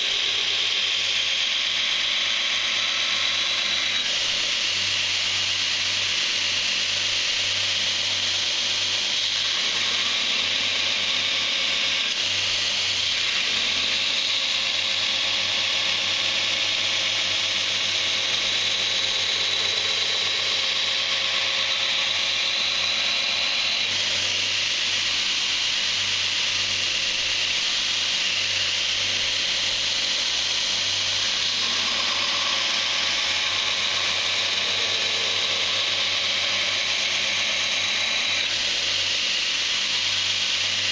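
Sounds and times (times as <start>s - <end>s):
power grinder grinding steel: 0.0s - 40.9s.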